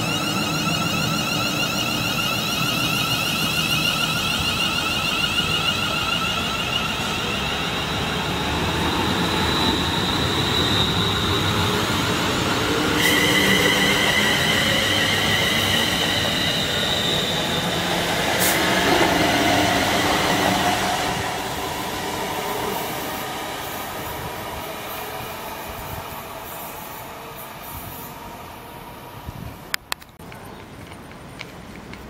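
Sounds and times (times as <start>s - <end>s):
train wheels whining on rails: 0.0s - 32.0s.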